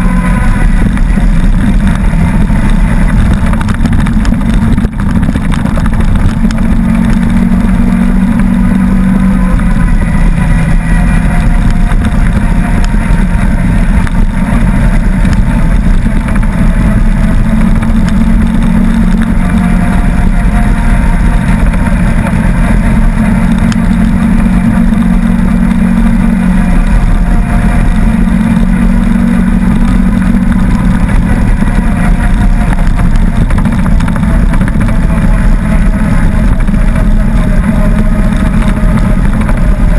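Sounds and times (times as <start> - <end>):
utility vehicle engine running: 0.0 - 39.9.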